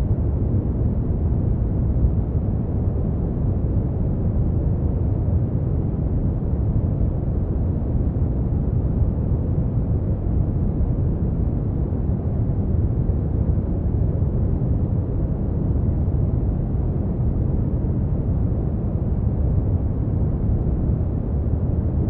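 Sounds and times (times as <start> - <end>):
deep rumbling brown noise: 0.0 - 22.0.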